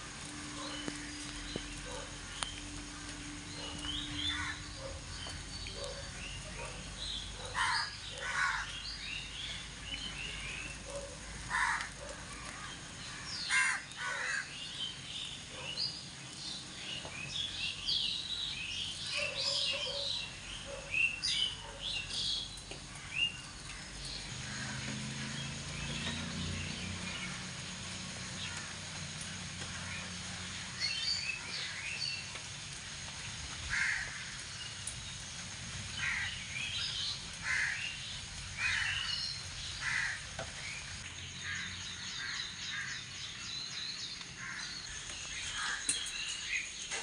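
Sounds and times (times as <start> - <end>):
birds chirping: 0.2 - 32.8, 33.7 - 47.0.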